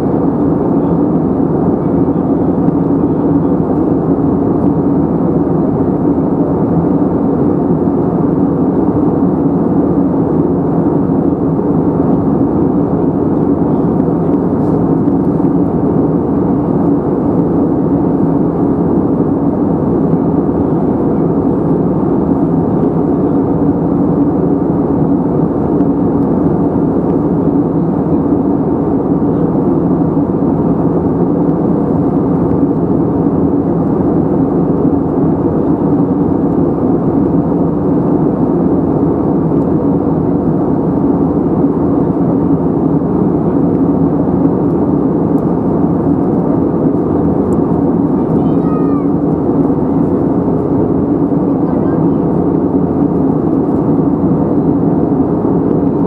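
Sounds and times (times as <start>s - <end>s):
airplane cabin engine drone: 0.0s - 56.0s
rushing airflow: 0.0s - 56.0s.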